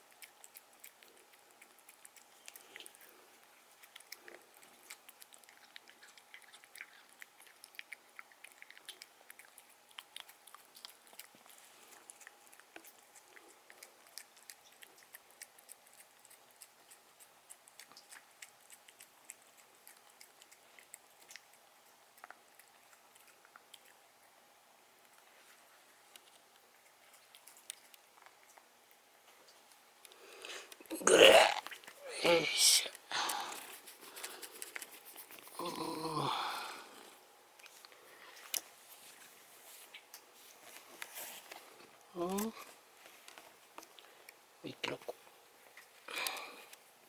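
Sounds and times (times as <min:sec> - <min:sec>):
cat chewing food: 0:00.0 - 0:31.0, 0:32.8 - 0:47.0.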